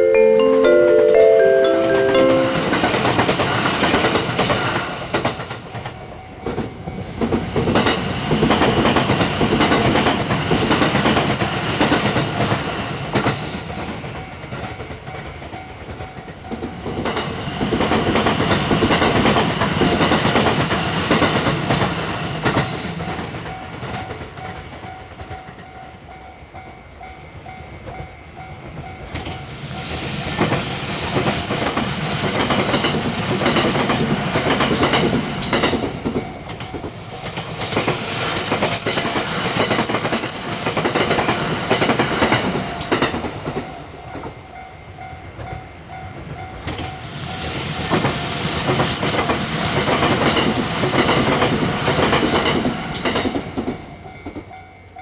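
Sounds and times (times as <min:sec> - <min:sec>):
electric train passing: 0:00.0 - 0:55.0
wheels clacking over rail joints: 0:01.9 - 0:25.8, 0:28.7 - 0:44.7, 0:45.3 - 0:54.7.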